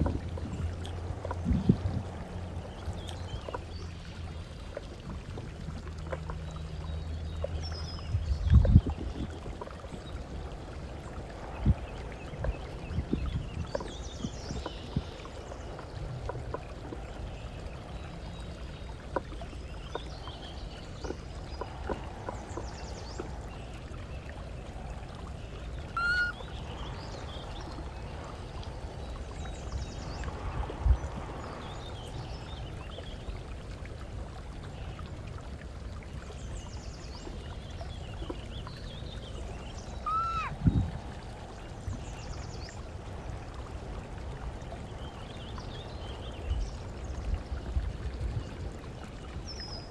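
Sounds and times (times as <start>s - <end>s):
steady low rumble: 0.0s - 49.2s.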